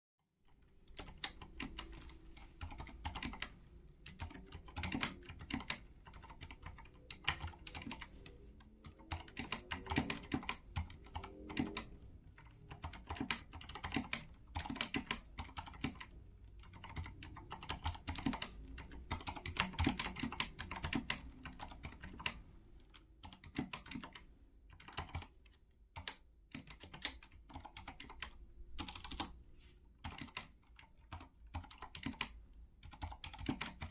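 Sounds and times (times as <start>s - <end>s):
soft mechanical keyboard typing: 0.4s - 29.4s, 30.0s - 33.9s.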